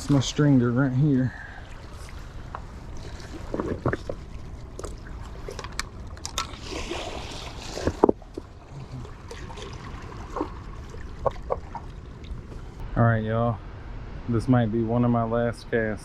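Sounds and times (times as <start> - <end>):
water splashing and sloshing: 0.0 - 12.8
low steady rumble: 0.0 - 16.0.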